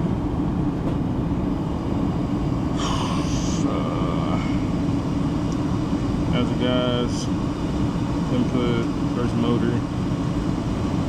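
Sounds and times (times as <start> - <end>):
furnace blower rumble: 0.0 - 11.0.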